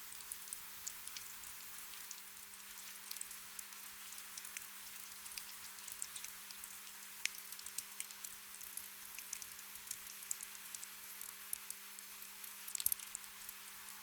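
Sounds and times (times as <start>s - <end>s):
faint steady hum: 0.0s - 14.0s
gentle rain hiss: 0.0s - 14.0s
raindrops ticking: 2.0s - 14.0s.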